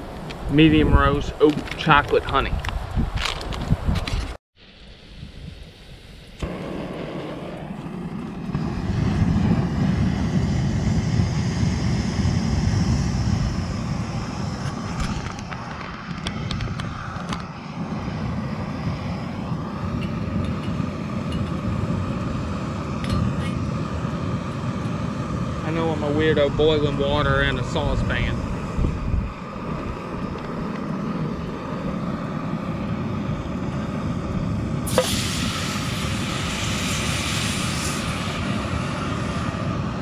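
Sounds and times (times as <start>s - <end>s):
gas stove burning: 6.3s - 40.0s.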